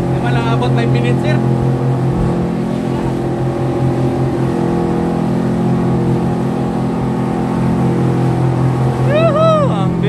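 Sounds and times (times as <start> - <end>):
speedboat engine running: 0.0 - 10.0.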